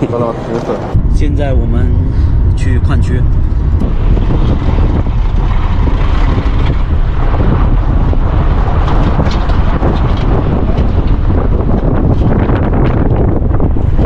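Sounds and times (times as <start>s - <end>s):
wind buffeting microphone: 0.0s - 14.0s
car driving on gravel road: 0.4s - 14.0s.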